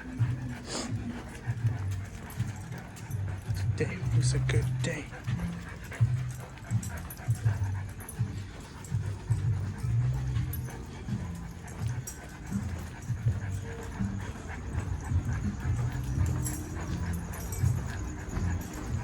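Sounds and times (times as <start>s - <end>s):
puppy panting: 0.0s - 19.0s.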